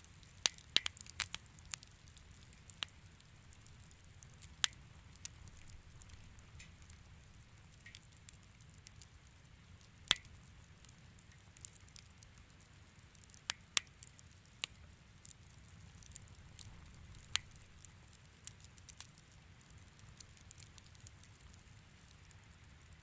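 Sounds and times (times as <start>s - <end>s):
fireplace fire crackling: 0.0s - 23.0s
low fire rumble: 0.0s - 23.0s.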